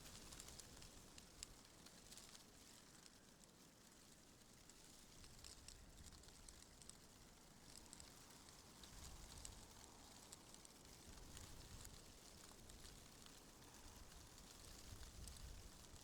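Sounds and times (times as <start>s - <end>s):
small ticks and crackles: 0.0s - 16.0s.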